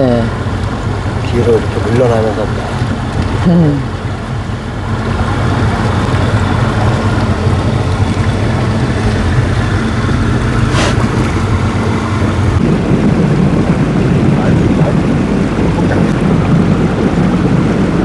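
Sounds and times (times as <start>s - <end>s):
low motor hum: 0.0s - 18.0s
rough noisy rumble: 0.0s - 18.0s.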